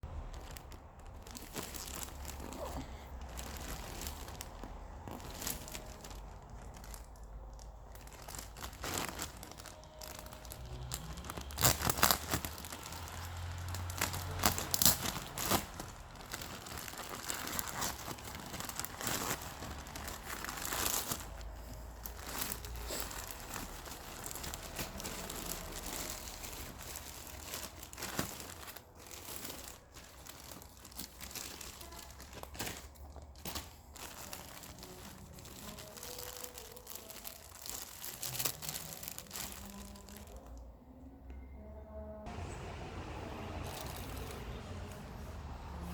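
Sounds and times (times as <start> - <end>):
plastic packaging crinkling: 0.0 - 40.6, 42.3 - 45.9
plastic tearing: 0.1 - 40.6, 43.5 - 44.6.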